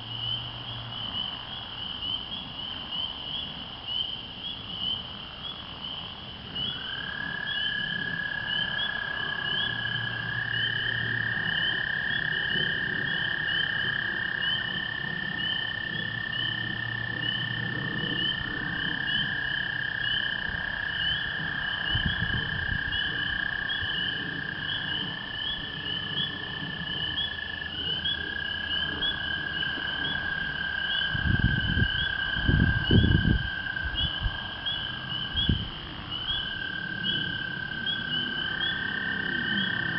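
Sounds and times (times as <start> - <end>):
frogs peeping: 0.0 - 39.9
toads trilling: 0.0 - 39.9.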